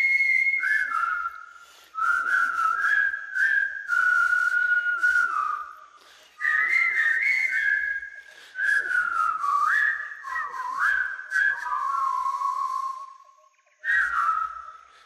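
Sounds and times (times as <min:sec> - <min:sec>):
person whistling a slow tune: 0:00.0 - 0:15.0.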